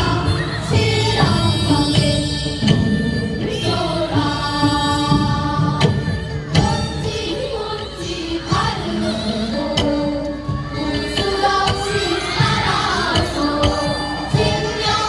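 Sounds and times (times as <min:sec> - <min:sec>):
loud music with singing: 0:00.0 - 0:15.0.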